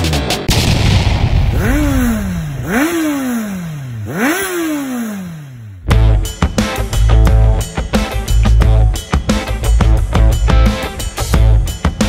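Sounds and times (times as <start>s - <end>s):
motorcycle engine revving: 1.1s - 12.0s.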